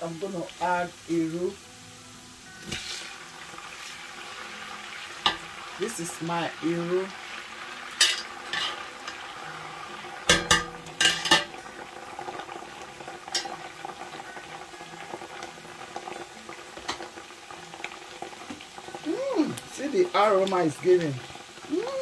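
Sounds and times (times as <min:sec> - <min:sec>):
onions sizzling in a pot: 0:00.0 - 0:22.0.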